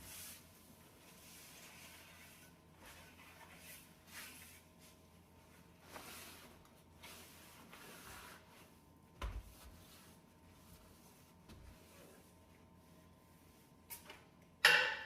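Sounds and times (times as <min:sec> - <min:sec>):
soft rubbing strokes: 0:00.0 - 0:13.8.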